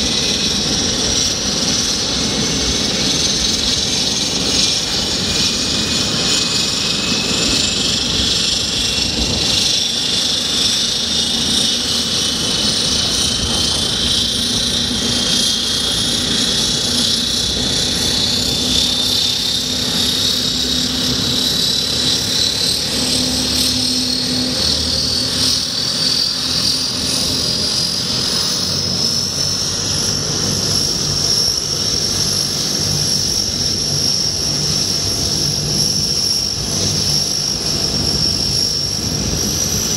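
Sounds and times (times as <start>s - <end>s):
high turbine whine: 0.0s - 39.9s
low propeller drone: 0.0s - 39.9s.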